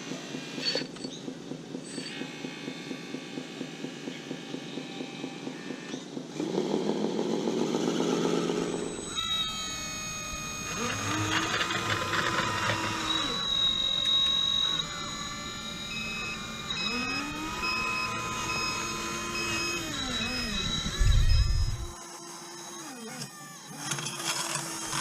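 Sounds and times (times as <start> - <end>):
small electric motor whining: 0.0 - 25.0.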